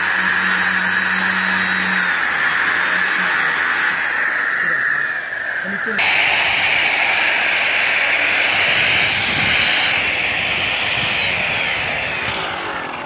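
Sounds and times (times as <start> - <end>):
electric polisher whining: 0.0 - 13.0.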